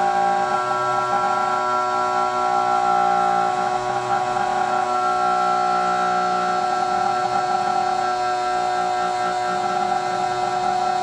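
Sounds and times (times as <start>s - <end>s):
drill motor whine: 0.0s - 11.0s.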